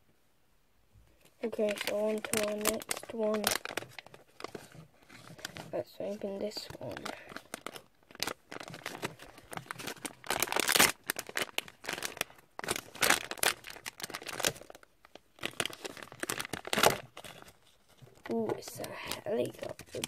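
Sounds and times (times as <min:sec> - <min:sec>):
plastic bag crinkling and tearing: 0:01.3 - 0:20.0.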